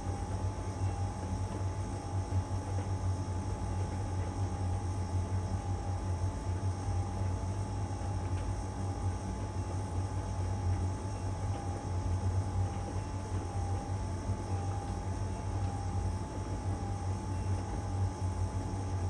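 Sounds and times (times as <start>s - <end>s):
thin steady whine: 0.0s - 19.0s.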